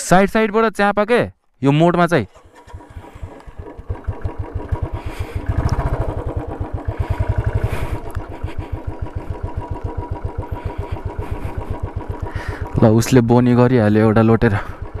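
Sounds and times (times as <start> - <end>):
single-cylinder motorcycle engine: 2.2 - 15.0.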